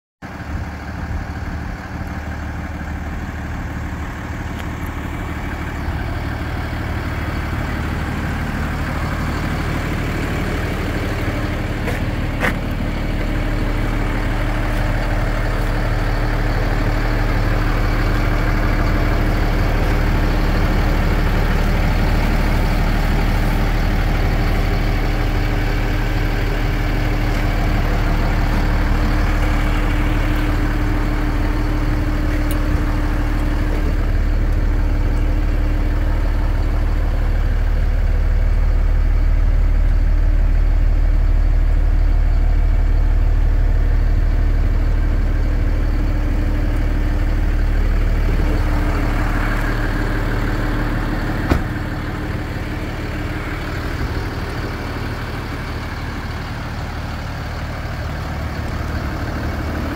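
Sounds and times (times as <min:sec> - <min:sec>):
diesel engine idling: 0:00.2 - 0:59.9.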